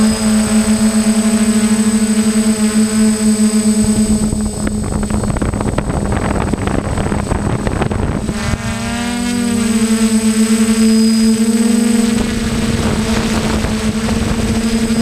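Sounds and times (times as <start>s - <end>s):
drone propellers whining: 0.0s - 15.0s
wind buffeting microphone: 0.0s - 15.0s.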